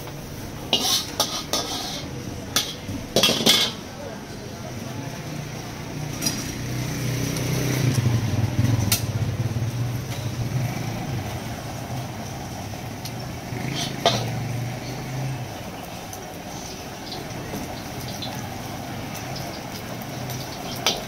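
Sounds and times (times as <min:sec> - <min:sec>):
gas burner roaring: 0:00.0 - 0:21.0.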